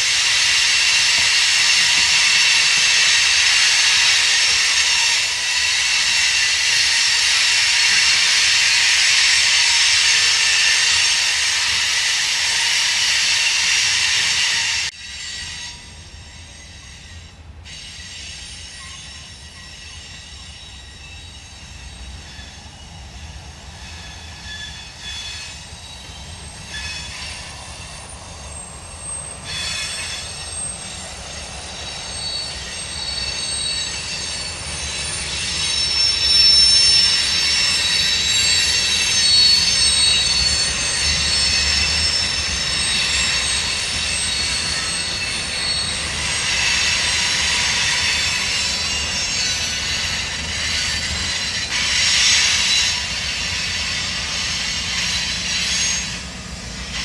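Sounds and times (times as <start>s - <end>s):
freight train rolling past: 0.0s - 57.0s
train wheels squealing: 0.0s - 57.0s.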